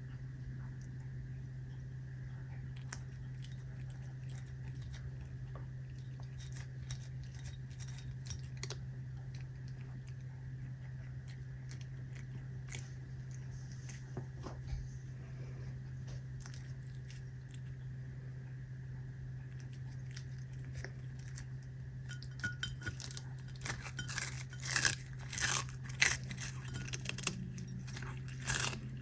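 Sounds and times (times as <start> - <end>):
cat chewing and crunching: 0.0 - 29.0
steady low hum: 0.0 - 29.0.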